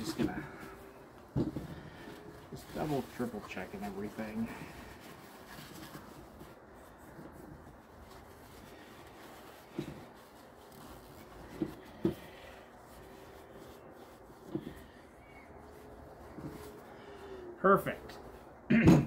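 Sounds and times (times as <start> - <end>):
cloth rubbing and wiping: 0.0 - 18.7.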